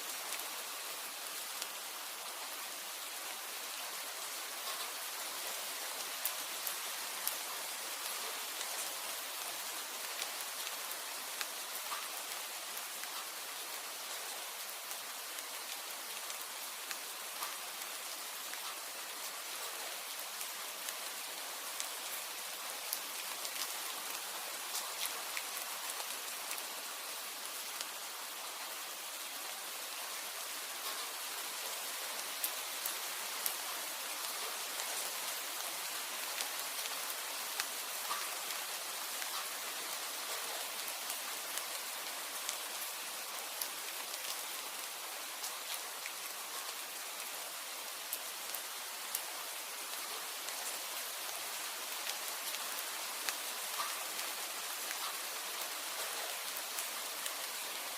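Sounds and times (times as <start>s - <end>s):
steady rain hiss: 0.0s - 57.9s
raindrops ticking on a surface: 0.1s - 57.9s.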